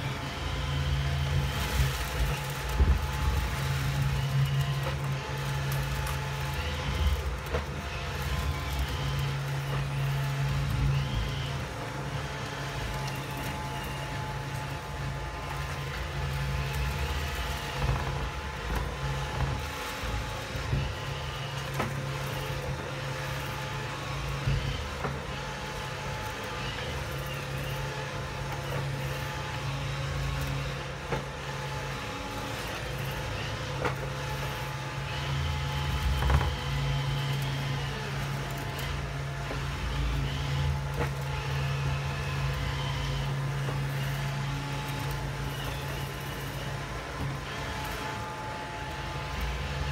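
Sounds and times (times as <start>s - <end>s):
robot vacuum motor and brush hum: 0.0s - 49.9s.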